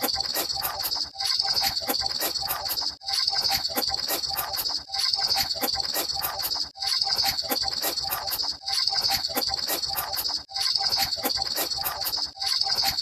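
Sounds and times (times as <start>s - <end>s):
high chirring with rapid clicks: 0.0s - 13.0s.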